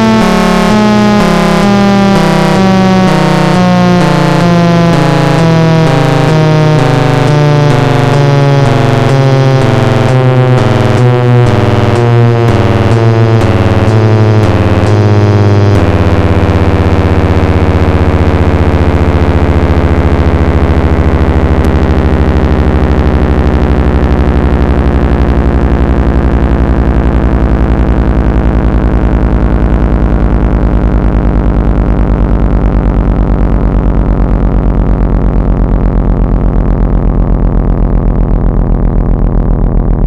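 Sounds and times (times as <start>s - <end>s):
siren winding down: 0.0s - 40.0s.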